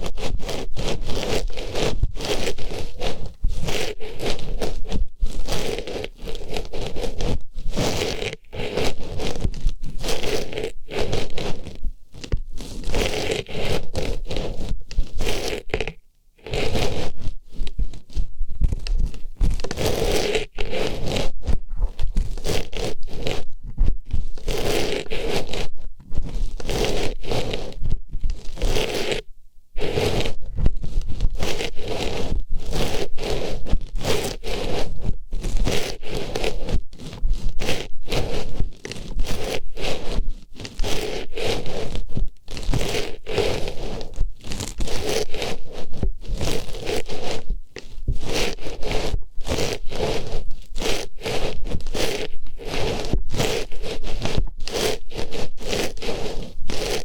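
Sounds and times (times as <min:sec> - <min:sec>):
scratchy rustling on microphone: 0:00.0 - 0:57.0.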